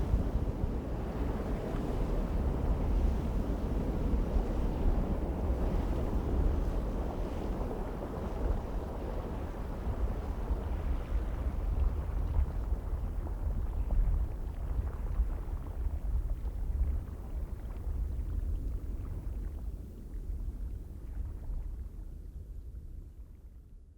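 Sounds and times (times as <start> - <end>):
wind on microphone: 0.0 - 23.3.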